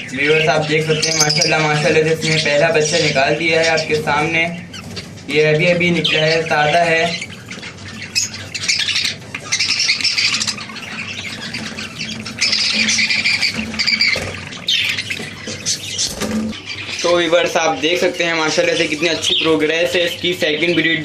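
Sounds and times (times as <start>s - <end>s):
budgerigars squawking: 0.0s - 21.0s.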